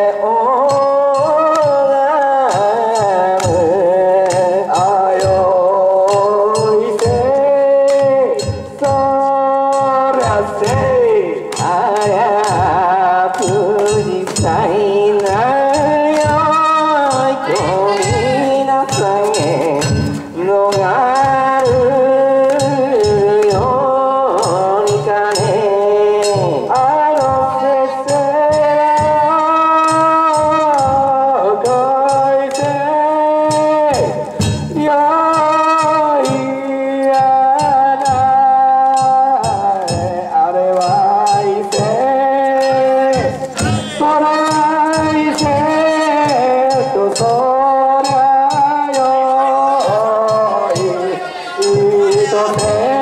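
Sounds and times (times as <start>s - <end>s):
drum beat: 0.2s - 53.0s.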